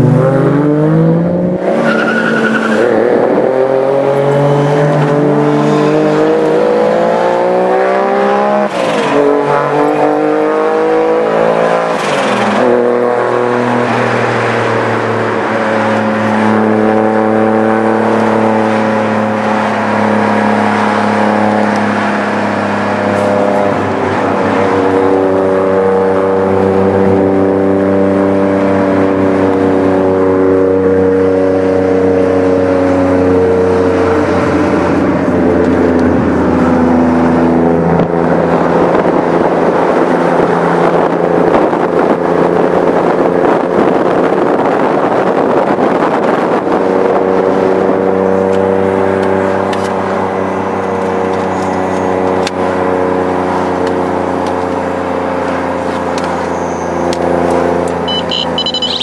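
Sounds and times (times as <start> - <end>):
car engine and exhaust: 0.0 - 59.0
road noise: 0.0 - 59.0.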